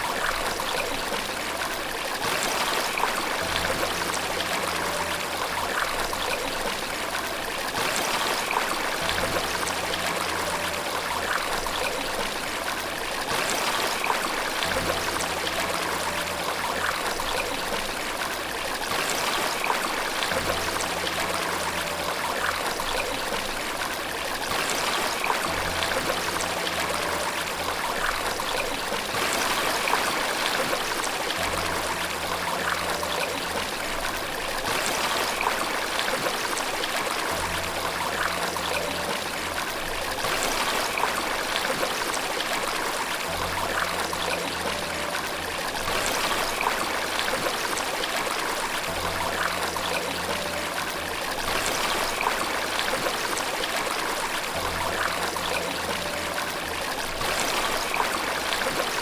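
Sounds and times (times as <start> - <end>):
flowing water rushing: 0.0 - 59.0
soft low sustained notes: 0.0 - 59.0.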